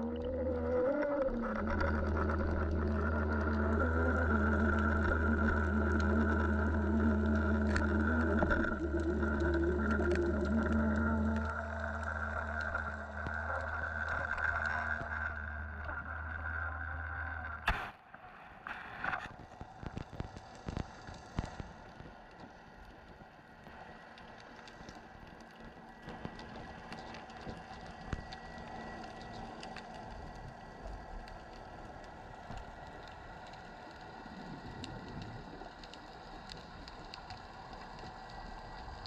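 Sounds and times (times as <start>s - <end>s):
mechanical hum underwater: 0.0s - 39.0s.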